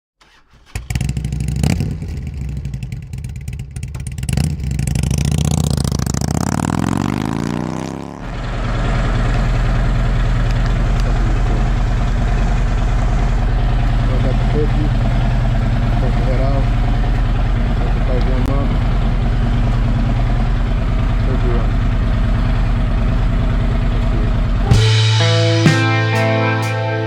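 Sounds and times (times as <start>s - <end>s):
motorcycle engine revving: 0.6s - 26.9s.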